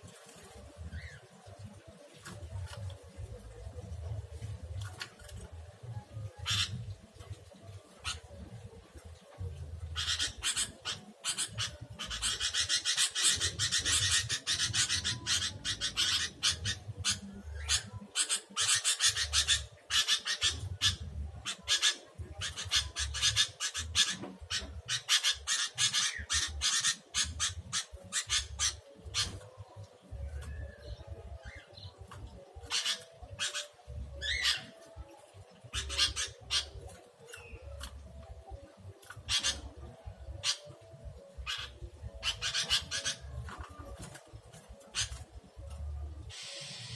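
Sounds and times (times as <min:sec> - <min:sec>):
birds rasping chatter: 0:06.1 - 0:46.9.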